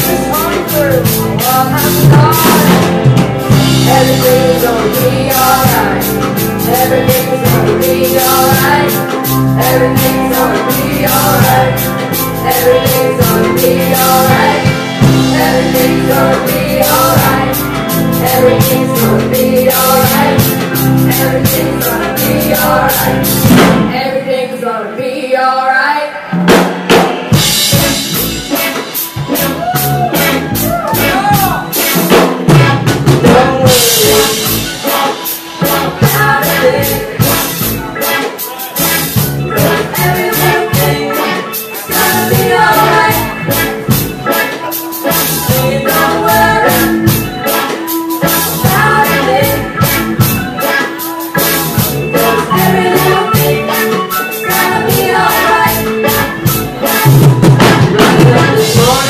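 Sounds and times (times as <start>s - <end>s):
drum kit beat: 0.0s - 24.2s, 26.3s - 59.0s
live reggae band: 0.0s - 59.0s.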